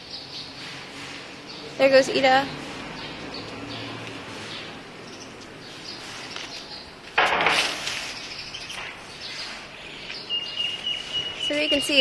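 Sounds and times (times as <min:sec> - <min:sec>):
birds chirping: 0:00.0 - 0:12.0
outdoor background hum: 0:00.0 - 0:12.0.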